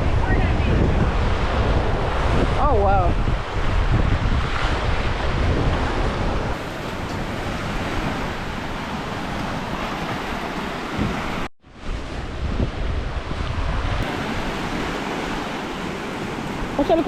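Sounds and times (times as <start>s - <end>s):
surf washing on shore: 0.0s - 17.0s
wind buffeting microphone: 0.0s - 17.0s.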